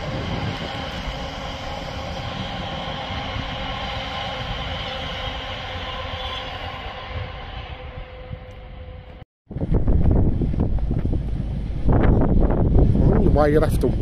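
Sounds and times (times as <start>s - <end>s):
steady whining tones: 0.0s - 14.0s
train wheels rumbling on rails: 0.0s - 14.0s.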